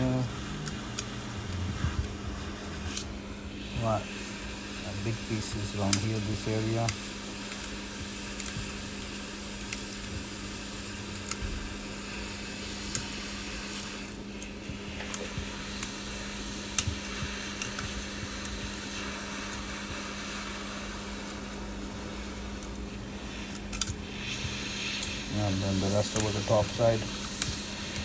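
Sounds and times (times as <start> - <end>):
heat gun blowing: 0.0 - 28.0.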